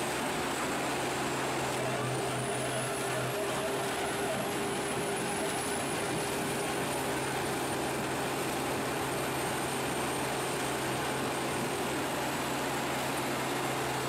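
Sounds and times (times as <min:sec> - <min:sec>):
stump shredder droning: 0:00.0 - 0:14.0.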